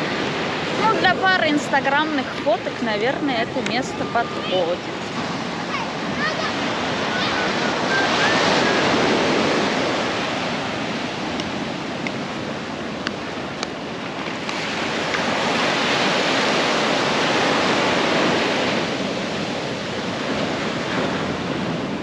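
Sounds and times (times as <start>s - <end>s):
ocean surf washing on shore: 0.0s - 22.0s.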